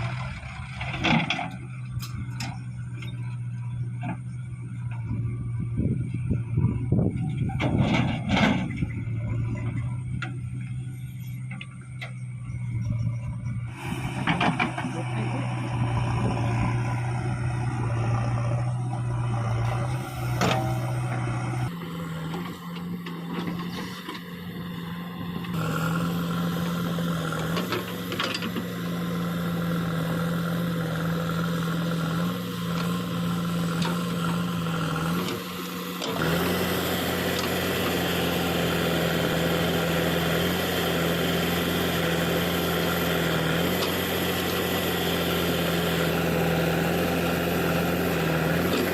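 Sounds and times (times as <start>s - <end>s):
heavy machinery diesel engine: 0.0s - 48.9s.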